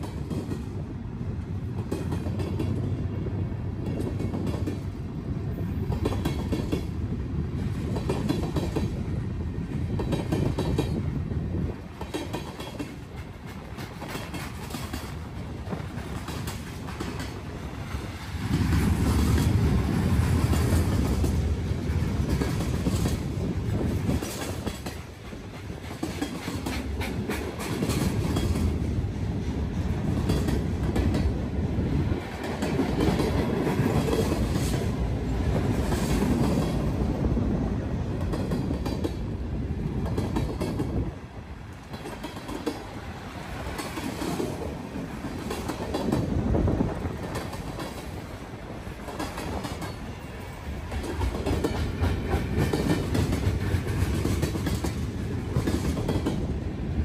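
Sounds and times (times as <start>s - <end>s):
freight train rolling past: 0.0s - 57.0s
wheels clicking over rail joints: 1.5s - 3.1s, 5.7s - 56.6s.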